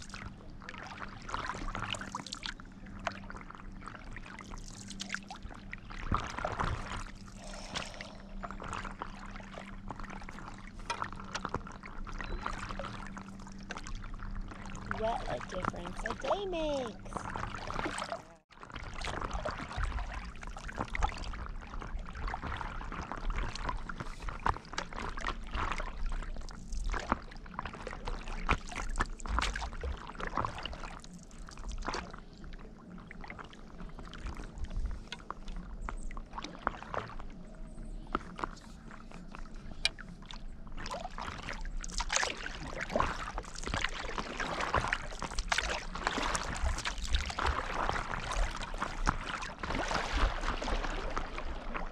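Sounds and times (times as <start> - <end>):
paddle pulling through water: 0.0 - 51.9
water splashing and trickling: 0.0 - 51.9.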